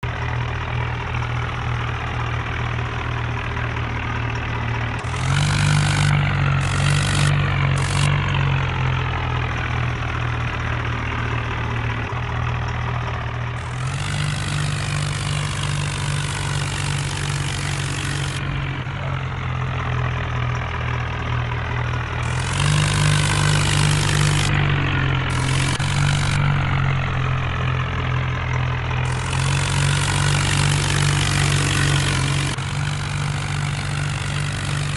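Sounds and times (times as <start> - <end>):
tractor diesel engine revving: 0.0 - 34.9.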